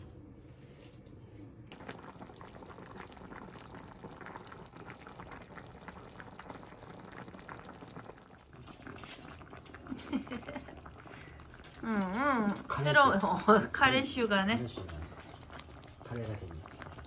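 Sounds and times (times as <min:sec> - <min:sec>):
broth bubbling at a simmer: 0:01.1 - 0:17.0.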